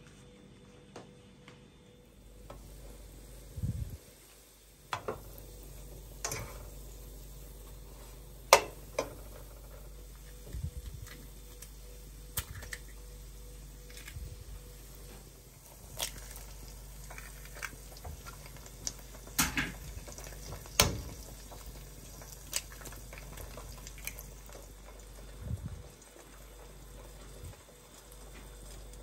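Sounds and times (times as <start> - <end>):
eggs sizzling in a pan: 2.2 - 29.0.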